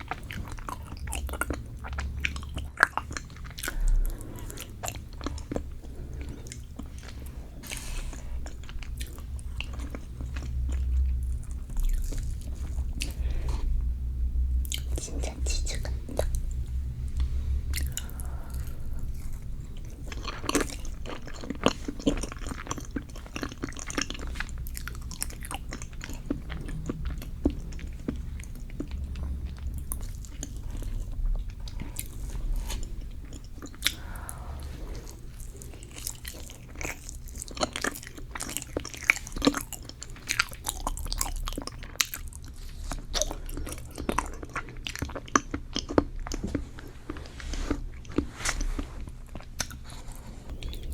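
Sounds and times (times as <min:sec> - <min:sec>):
chewing sticky cake: 0:00.0 - 0:13.9, 0:14.5 - 0:50.9.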